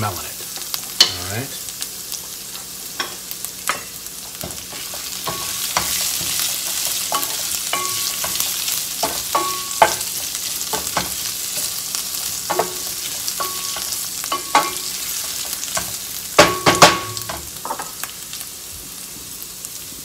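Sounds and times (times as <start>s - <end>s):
herbs sizzling in oil: 0.0s - 20.0s.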